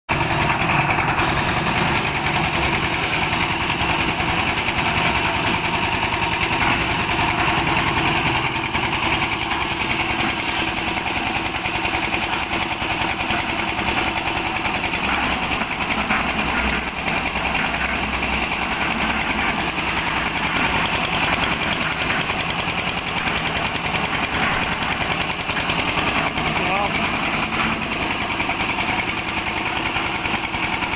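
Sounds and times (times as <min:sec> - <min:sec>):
small engine running: 0:00.1 - 0:30.9.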